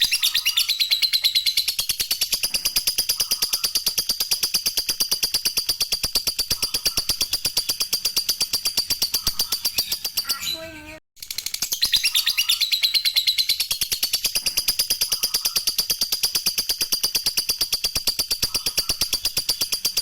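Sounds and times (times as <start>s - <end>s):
bird chattering trill: 0.0s - 20.0s.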